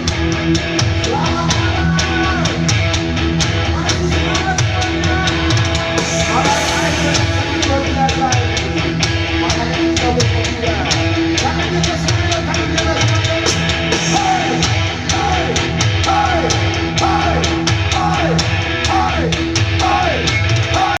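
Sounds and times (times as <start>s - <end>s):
rock music with singing: 0.0s - 21.0s.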